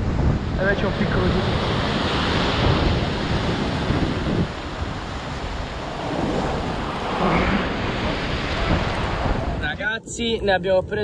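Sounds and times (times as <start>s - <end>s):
waves breaking on rocks: 0.0s - 9.7s
wind buffeting microphone: 0.0s - 11.0s.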